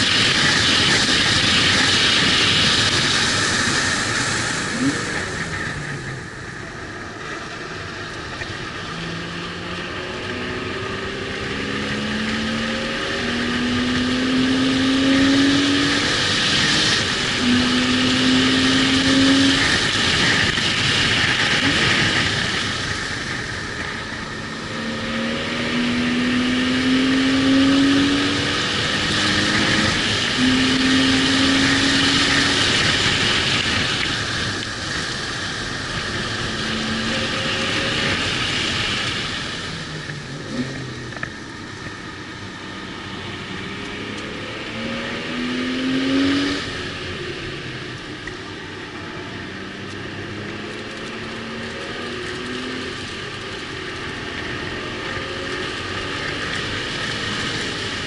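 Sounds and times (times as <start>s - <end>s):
car engine accelerating: 0.0s - 58.0s
wind and tyre noise: 0.0s - 58.0s.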